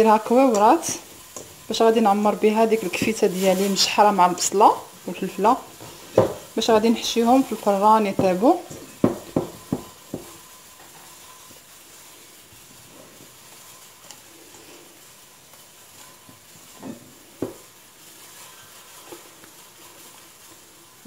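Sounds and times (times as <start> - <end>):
faint steady hiss: 0.0 - 21.0
dough squishing: 0.1 - 21.0.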